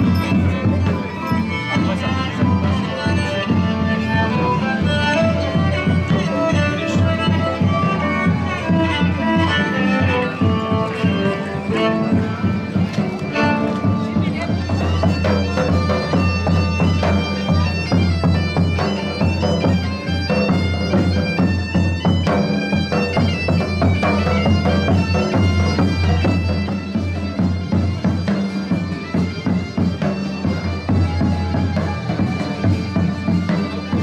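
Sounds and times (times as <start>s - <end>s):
bagpipes playing: 0.0s - 34.0s.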